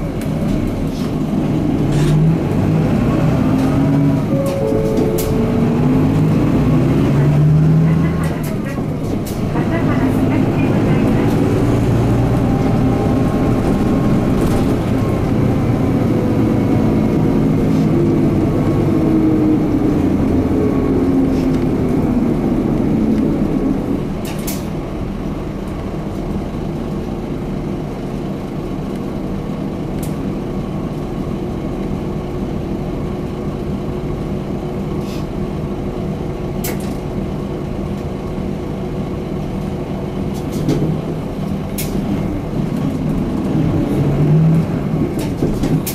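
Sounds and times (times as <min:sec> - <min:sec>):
diesel bus engine running: 0:00.0 - 0:45.9.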